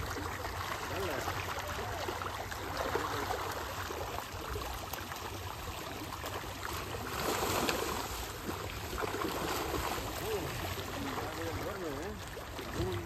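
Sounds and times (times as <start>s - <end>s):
fish splashing in water: 0.0s - 13.0s.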